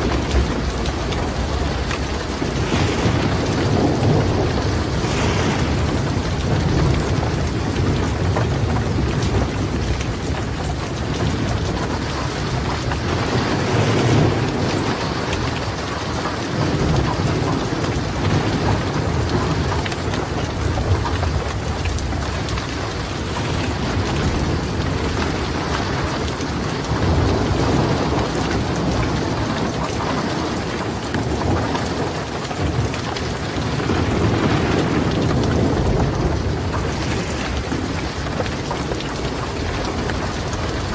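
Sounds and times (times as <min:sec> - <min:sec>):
heavy rain pattering: 0:00.0 - 0:40.9
low rolling thunder: 0:00.0 - 0:40.9
wood fire crackling: 0:00.0 - 0:40.9.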